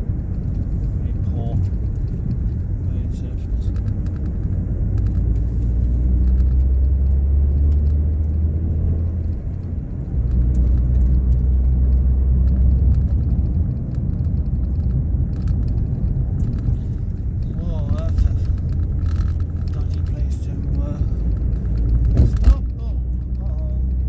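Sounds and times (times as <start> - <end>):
car engine drone: 0.0 - 24.0
road rumble inside car: 0.0 - 24.0.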